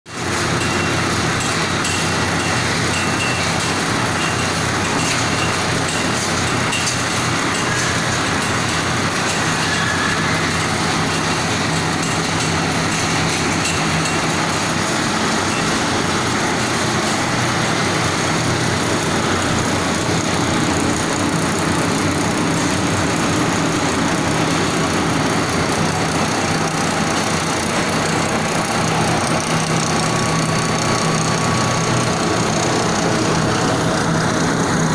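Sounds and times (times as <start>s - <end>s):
machine running steadily: 0.1s - 34.9s.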